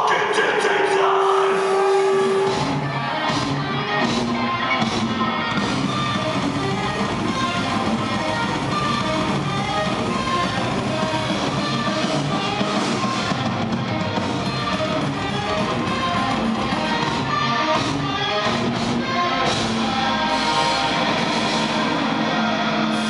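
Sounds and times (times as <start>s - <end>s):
heavy metal band playing live: 0.0s - 23.0s.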